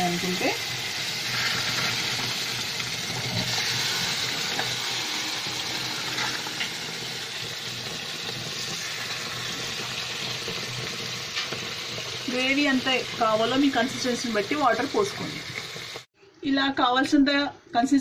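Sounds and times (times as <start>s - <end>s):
gravy sizzling and bubbling: 0.0s - 16.1s.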